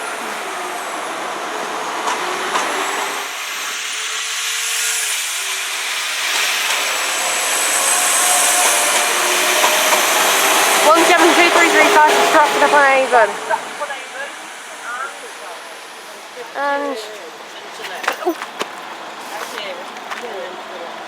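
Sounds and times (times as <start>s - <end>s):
diesel train running: 0.0s - 21.0s.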